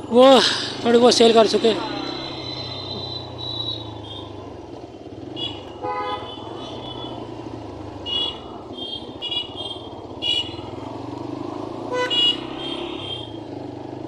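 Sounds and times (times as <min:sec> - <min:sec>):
traffic engine hum: 0:00.0 - 0:14.0.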